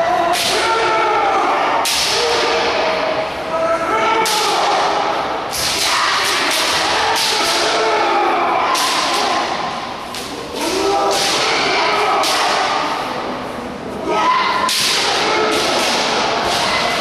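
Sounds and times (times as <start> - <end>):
people shouting: 0.0 - 17.0.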